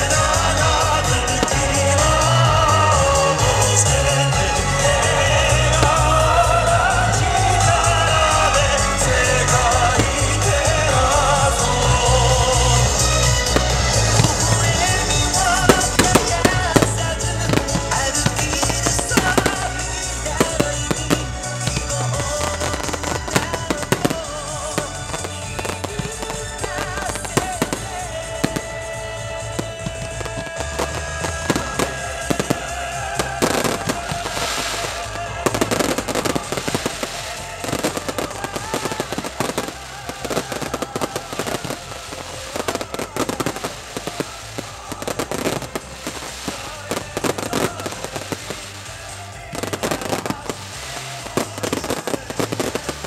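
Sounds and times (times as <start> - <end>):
fireworks bangs and crackles: 0.0 - 53.0
music with bass line: 0.0 - 53.0.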